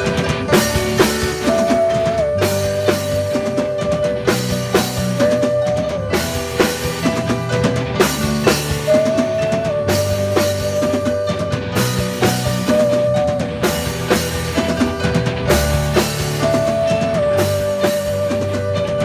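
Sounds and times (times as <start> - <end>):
drum kit beat: 0.0 - 19.0
live rock band playing: 0.0 - 19.0.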